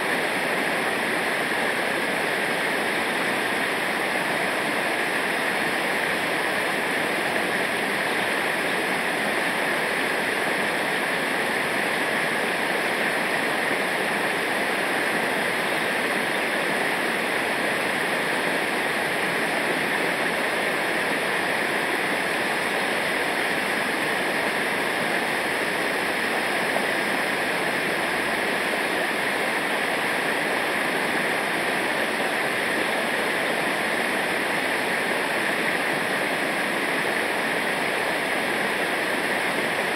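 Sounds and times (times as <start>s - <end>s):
fast river water rushing: 0.0s - 39.9s.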